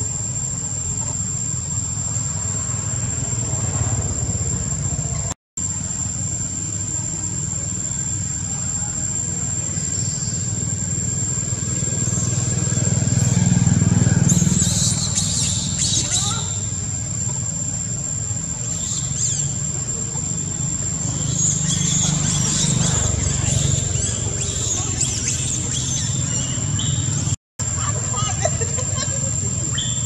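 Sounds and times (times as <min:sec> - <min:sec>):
motorbike engine rumble: 0:00.0 - 0:30.0.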